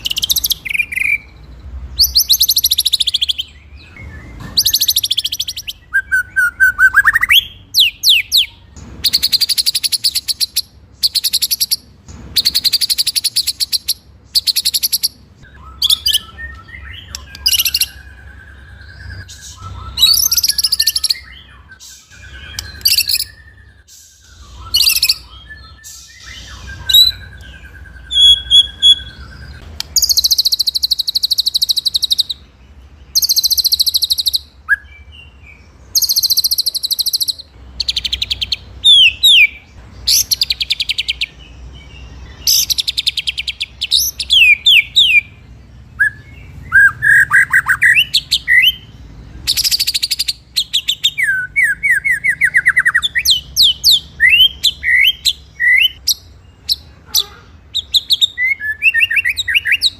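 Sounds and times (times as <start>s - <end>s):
bird singing rolling trills: 0.0s - 59.9s.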